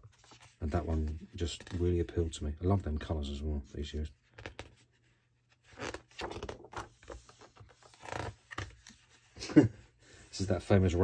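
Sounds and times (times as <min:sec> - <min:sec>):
book pages rustling: 0:00.0 - 0:02.2, 0:03.9 - 0:11.0.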